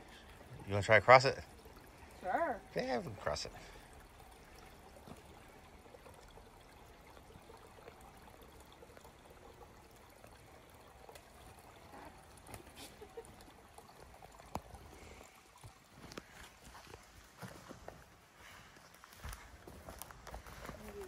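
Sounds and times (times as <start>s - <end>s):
stream trickling: 0.0s - 21.0s.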